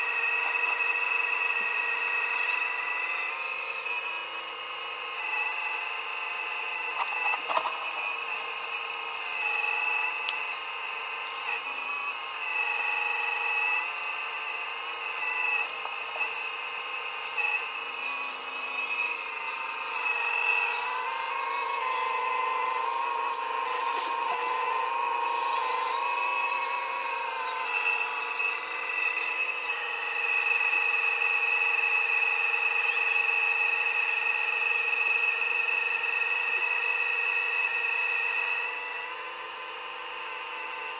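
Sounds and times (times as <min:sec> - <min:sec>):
high-pitched motor whine: 0:00.0 - 0:40.9.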